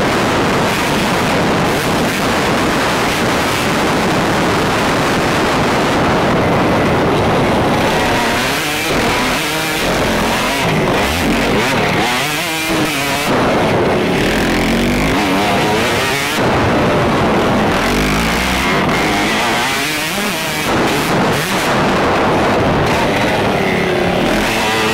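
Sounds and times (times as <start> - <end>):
motocross bike engine revving: 0.0 - 24.9
wind rush on microphone: 0.0 - 24.9.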